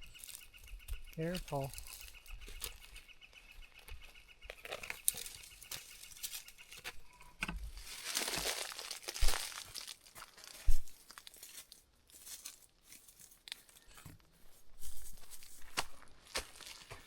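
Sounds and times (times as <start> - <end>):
footsteps crunching on rocky ground: 0.2 - 17.0.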